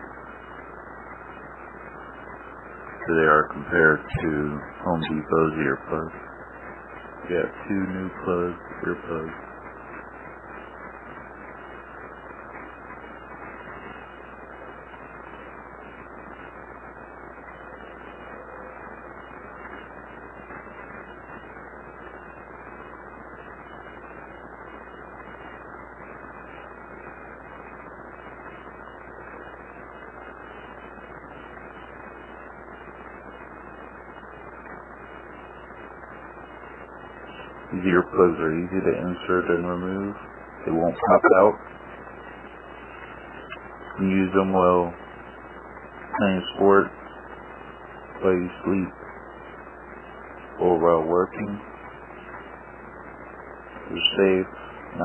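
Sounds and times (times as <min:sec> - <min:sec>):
background hiss: 0:00.0 - 0:55.0
low hum: 0:00.0 - 0:55.0.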